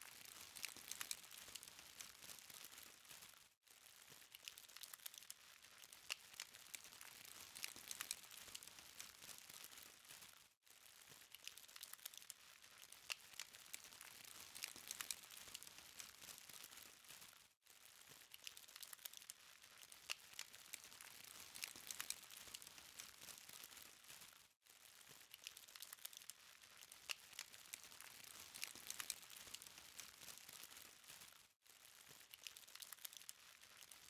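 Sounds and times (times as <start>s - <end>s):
charcoal crackling: 0.0s - 34.0s.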